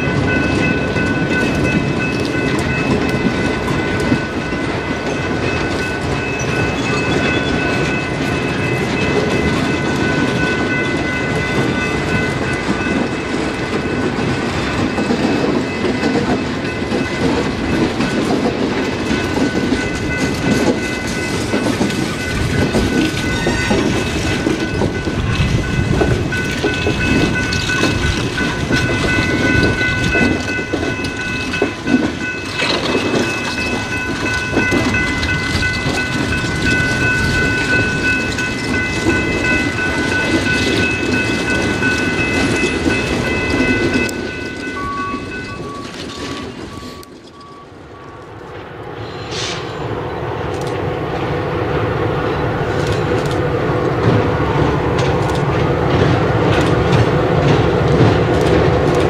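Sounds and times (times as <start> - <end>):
train wheels clattering: 0.0 - 49.7, 52.5 - 59.0.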